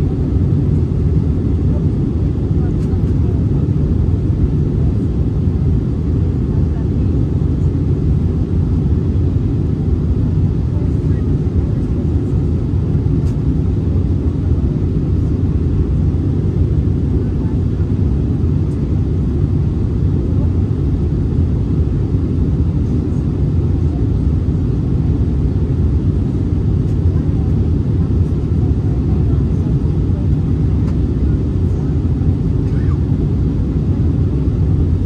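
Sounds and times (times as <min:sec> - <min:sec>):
airplane cabin roar: 0:00.0 - 0:35.0.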